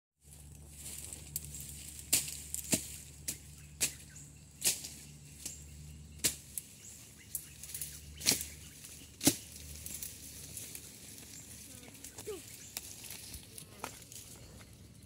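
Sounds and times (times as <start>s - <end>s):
sharp snaps and crackles: 0.5s - 5.6s, 6.2s - 14.4s.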